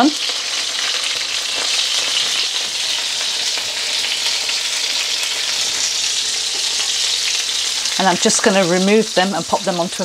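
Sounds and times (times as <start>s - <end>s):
patties sizzling in hot oil: 0.0s - 10.0s.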